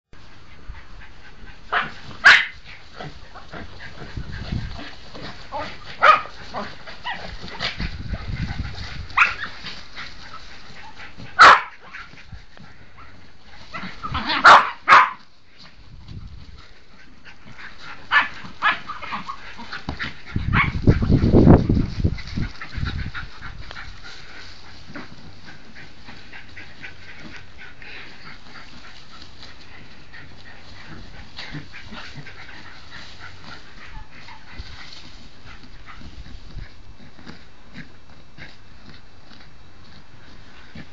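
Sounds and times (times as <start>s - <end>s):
scuffling and rustling in straw: 0.2s - 40.9s
dogs barking and yipping: 0.8s - 15.3s, 16.9s - 36.2s.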